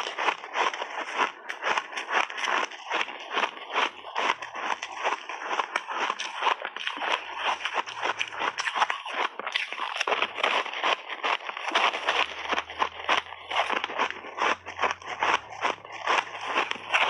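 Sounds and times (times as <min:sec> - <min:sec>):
crunching ice balls: 0:00.0 - 0:17.0.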